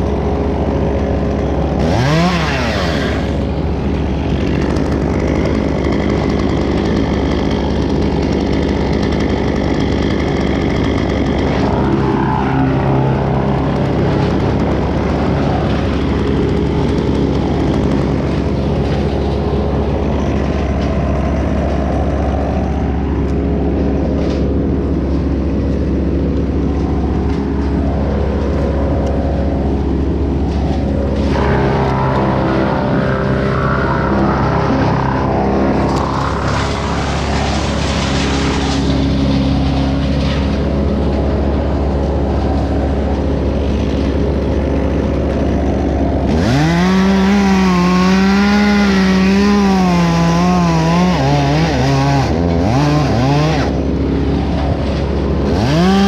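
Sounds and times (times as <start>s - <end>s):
chainsaw revving and cutting: 0.0s - 56.0s
engine running: 0.0s - 56.0s.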